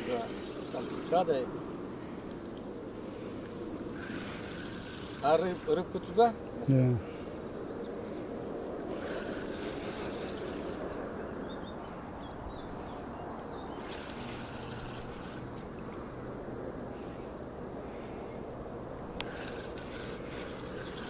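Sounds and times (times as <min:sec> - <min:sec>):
constant high hiss: 0:00.0 - 0:21.0.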